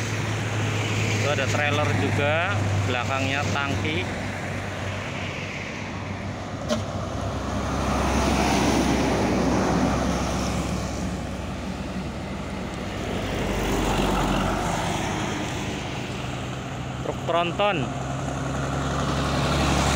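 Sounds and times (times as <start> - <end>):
diesel truck passing: 0.0 - 19.9
traffic noise: 0.0 - 19.9.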